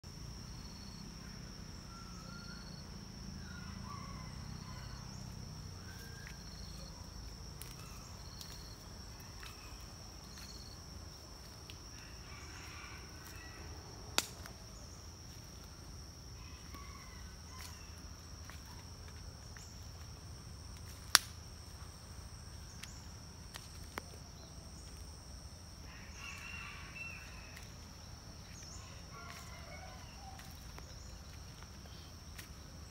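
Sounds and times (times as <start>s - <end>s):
insects droning: 0.0s - 32.9s.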